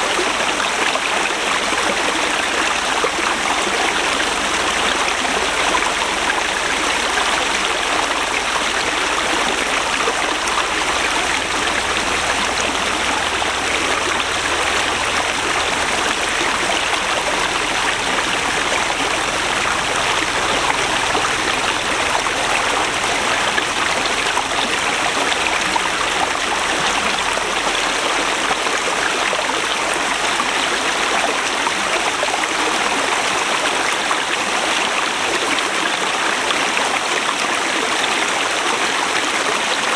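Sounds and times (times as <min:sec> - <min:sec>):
river rushing over rocks: 0:00.0 - 0:37.6.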